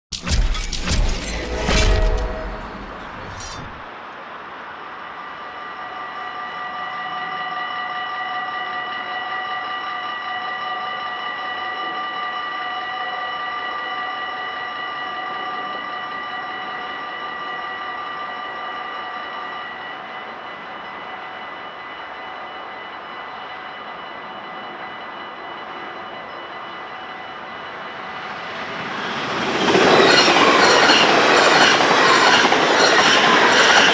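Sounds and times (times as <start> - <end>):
level-crossing warning bells ringing: 0.9 - 33.9.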